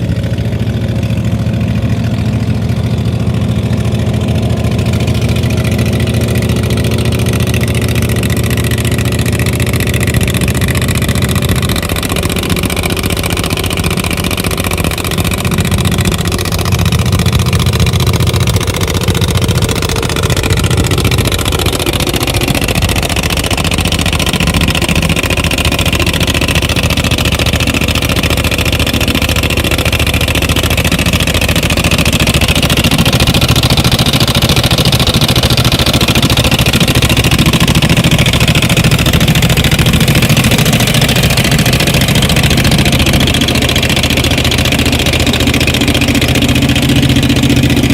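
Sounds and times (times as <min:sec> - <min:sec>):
wood chipper engine running: 0:00.0 - 0:47.9.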